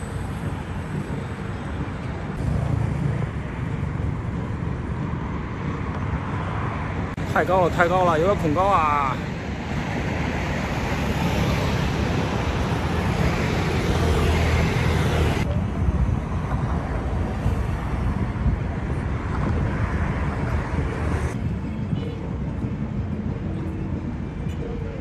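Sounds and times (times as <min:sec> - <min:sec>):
wind noise on microphone: 0:00.0 - 0:07.8, 0:08.4 - 0:25.0
road traffic rumble: 0:00.0 - 0:25.0.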